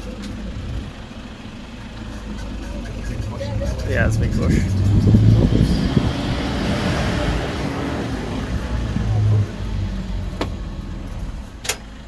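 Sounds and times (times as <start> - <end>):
jeep engine humming: 0.0 - 12.0.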